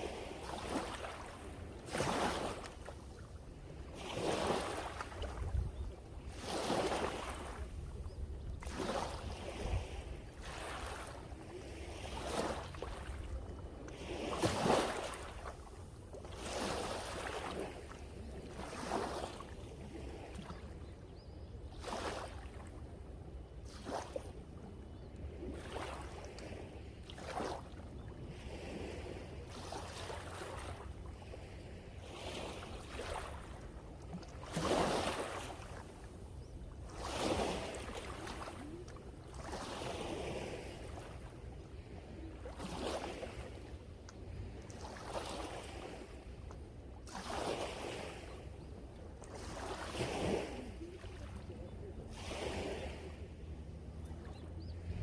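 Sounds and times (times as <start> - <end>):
sea waves breaking on shore: 0.0 - 20.8, 21.7 - 24.6, 25.2 - 55.0
wind rumble on microphone: 0.0 - 55.0.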